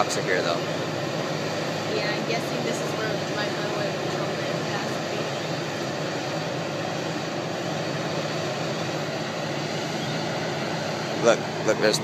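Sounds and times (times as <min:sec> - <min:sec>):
vehicle rumble and hiss: 0:00.0 - 0:12.0.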